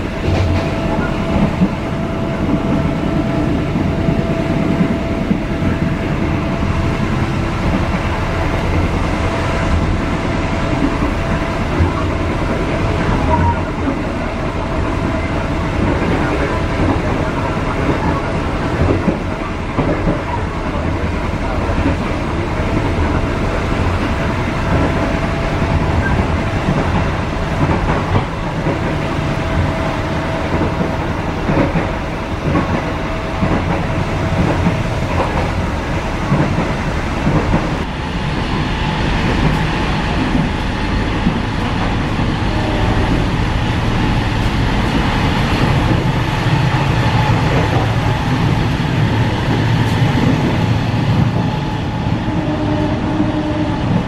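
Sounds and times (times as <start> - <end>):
clickety-clack over rail joints: 0.0 - 54.0
train wheels rumbling on rails: 0.0 - 54.0.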